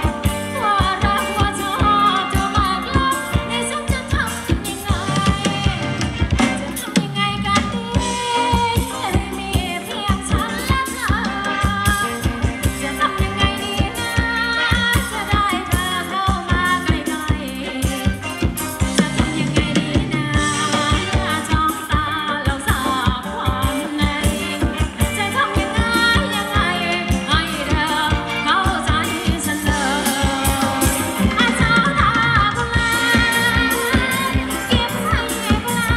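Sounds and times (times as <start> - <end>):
person singing: 0.0 - 35.9
steady drum beat: 0.0 - 35.9.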